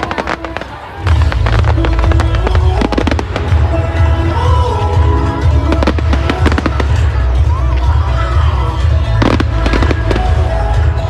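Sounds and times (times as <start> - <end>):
fireworks bangs and crackles: 0.0 - 11.0
loud music with heavy bass: 0.0 - 11.0.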